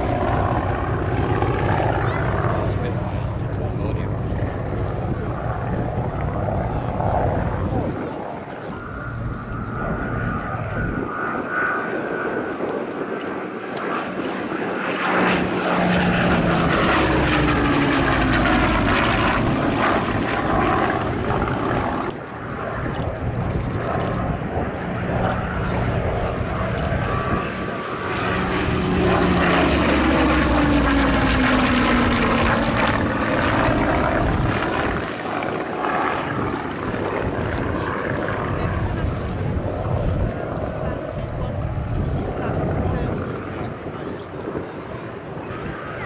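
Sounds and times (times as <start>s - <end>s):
propeller plane engine passing: 0.0s - 46.0s.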